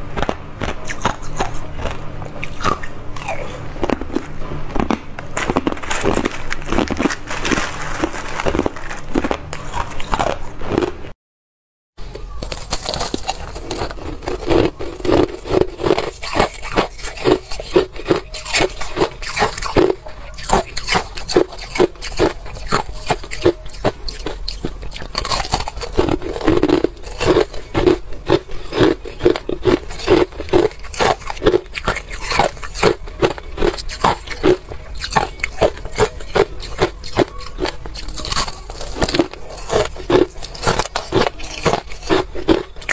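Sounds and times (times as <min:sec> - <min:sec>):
ice crunching between teeth: 0:00.2 - 0:11.1, 0:12.1 - 0:42.9.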